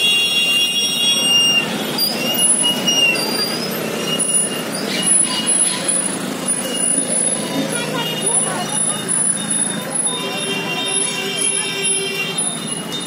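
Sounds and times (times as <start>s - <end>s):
high-pitched squeals: 0.0s - 13.0s
motorcycle engines running: 0.0s - 13.0s.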